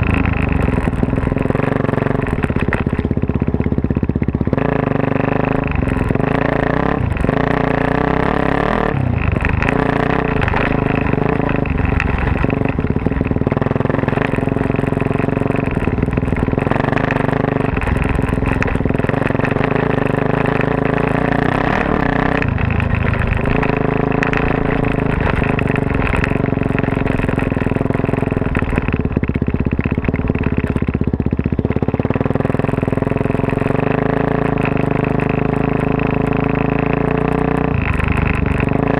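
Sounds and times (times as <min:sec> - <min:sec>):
dirt bike engine revving: 0:04.4 - 0:38.9.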